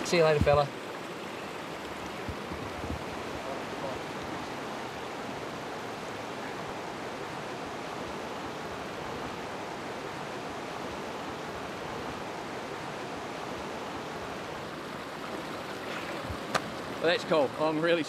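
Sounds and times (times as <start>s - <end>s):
river flowing over stones: 0.0s - 18.0s.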